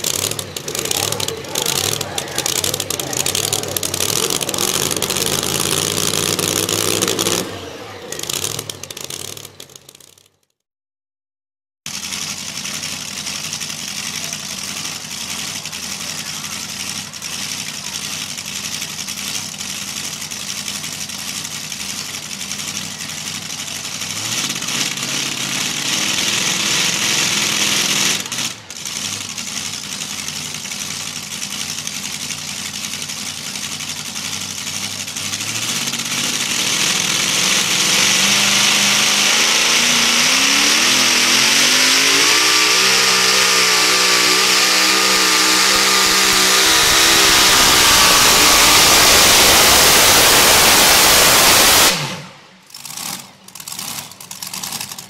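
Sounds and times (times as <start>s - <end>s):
truck engine revving: 0.0s - 10.2s, 11.9s - 55.0s.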